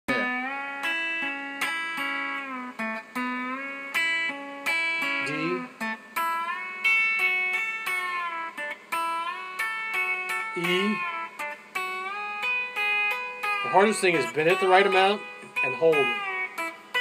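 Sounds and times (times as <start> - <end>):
electric guitar melody: 0.1 - 17.0.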